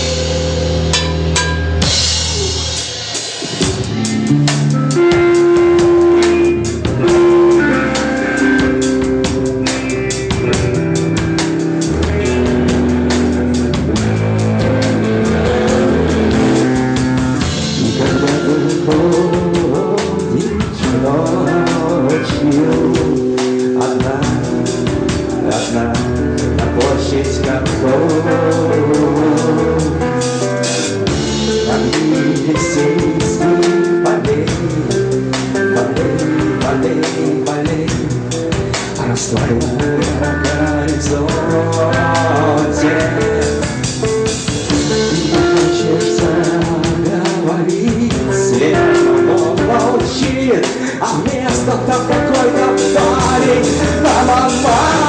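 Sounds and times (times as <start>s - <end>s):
drum beat: 0.0s - 28.4s, 30.0s - 55.0s
low bass notes: 0.0s - 55.0s
rock guitars: 0.0s - 55.0s.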